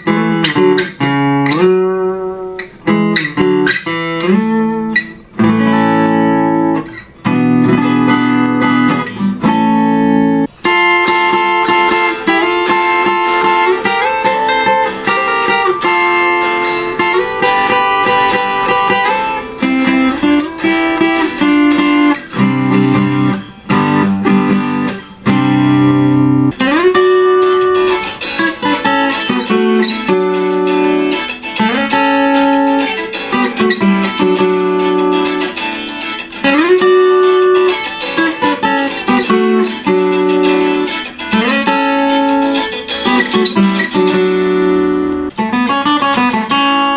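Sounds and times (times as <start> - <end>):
acoustic guitar plucked melody: 0.0 - 46.9.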